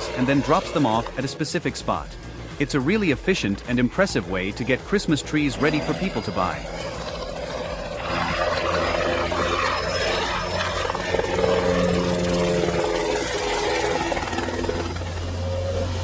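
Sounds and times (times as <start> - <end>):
helicopter hovering: 0.0 - 16.0.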